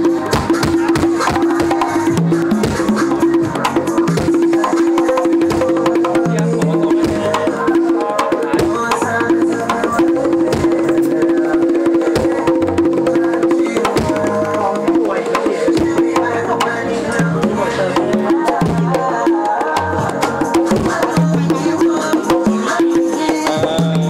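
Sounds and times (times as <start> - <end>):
congas played by hand: 0.0 - 24.0.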